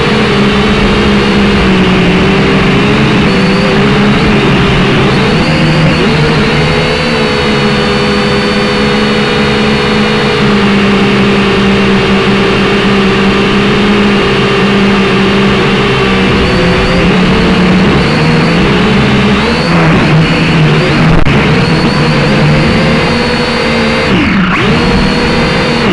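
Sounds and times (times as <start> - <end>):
drone propellers whirring: 0.0 - 25.9.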